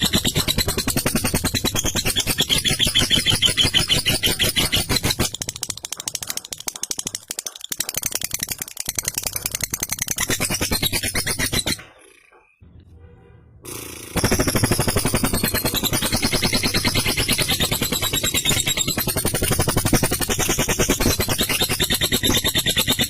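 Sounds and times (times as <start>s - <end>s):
lovebird chattering trill: 0.0s - 12.6s, 13.7s - 23.0s.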